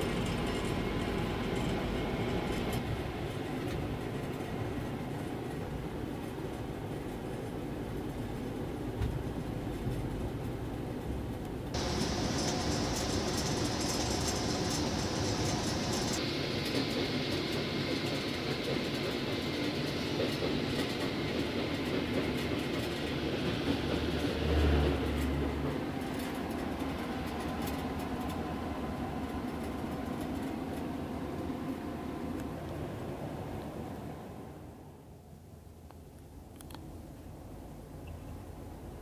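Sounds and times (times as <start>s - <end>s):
train wheels rumbling on track: 0.0s - 34.9s.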